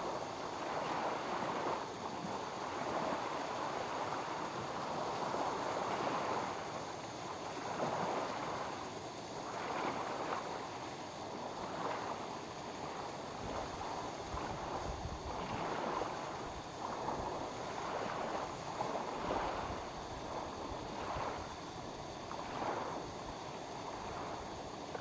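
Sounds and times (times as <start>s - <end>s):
waves lapping at shore: 0.0s - 25.0s.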